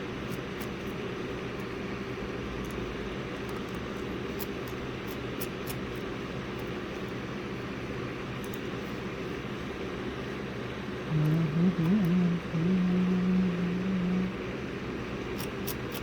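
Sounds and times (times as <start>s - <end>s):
machine or fan humming: 0.0s - 16.0s.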